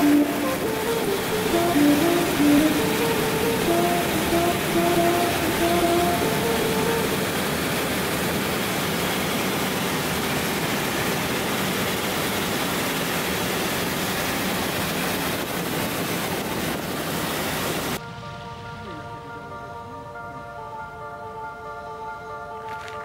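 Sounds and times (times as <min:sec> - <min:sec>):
rushing wind and engine noise: 0:00.0 - 0:18.8.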